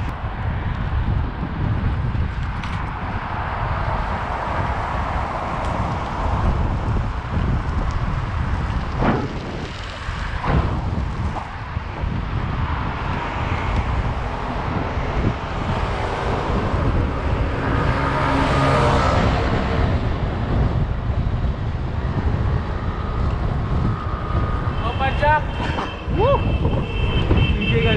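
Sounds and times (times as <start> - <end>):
road noise rumbling: 0.0 - 27.9
wind buffeting microphone: 0.0 - 27.9.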